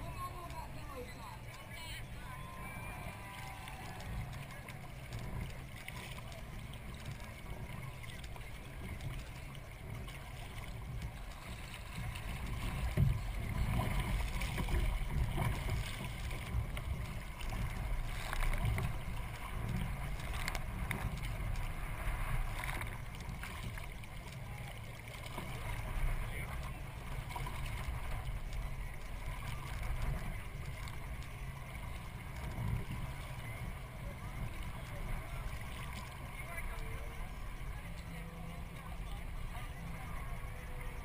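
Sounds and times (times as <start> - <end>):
low rumble: 0.0 - 41.0
paddle strokes splashing: 0.0 - 41.0
water lapping at hull: 0.0 - 41.0.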